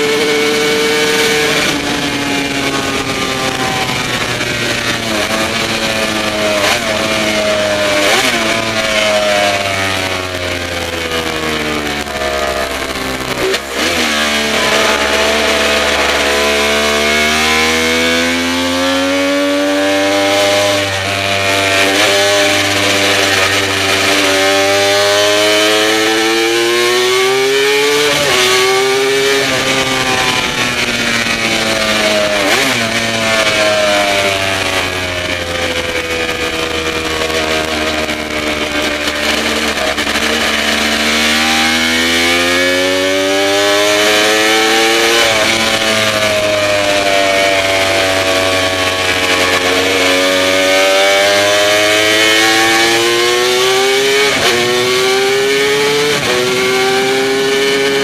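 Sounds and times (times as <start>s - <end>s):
racing motorcycle engine: 0.0s - 58.0s.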